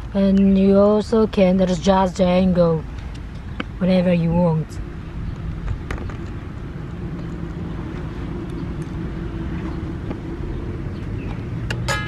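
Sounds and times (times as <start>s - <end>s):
low background rumble: 0.0s - 11.8s.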